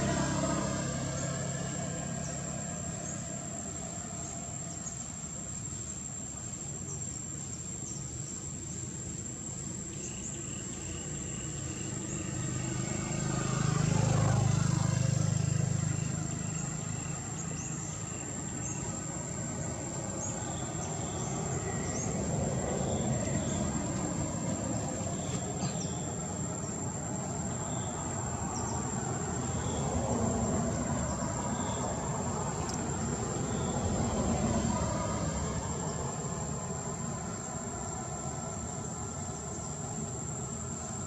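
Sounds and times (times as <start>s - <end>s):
distant traffic rumble: 0.0s - 41.0s
high-pitched insect drone: 0.0s - 41.0s.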